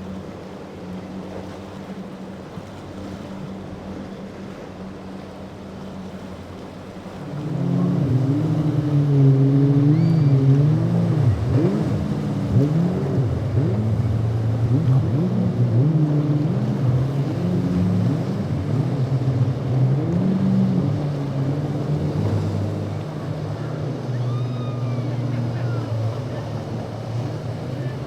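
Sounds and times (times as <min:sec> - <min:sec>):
loud boat engine revving: 0:00.0 - 0:28.0
motorboat engines humming: 0:00.0 - 0:28.0.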